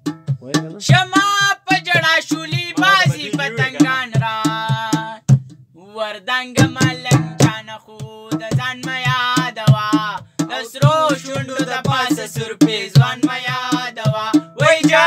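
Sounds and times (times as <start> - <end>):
hand-drumming on improvised drums: 0.0 - 5.8, 6.4 - 15.0
young man singing: 0.4 - 15.0.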